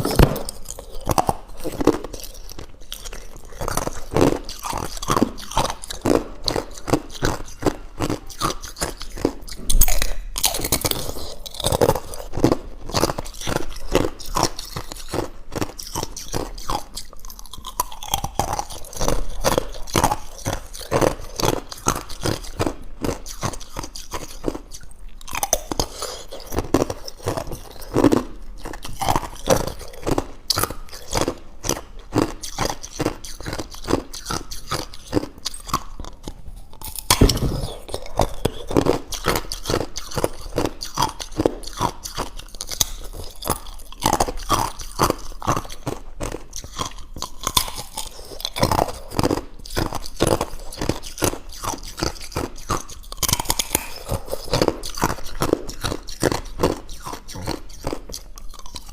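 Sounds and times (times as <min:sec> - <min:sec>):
ice crunching being chewed: 0:00.0 - 0:58.9.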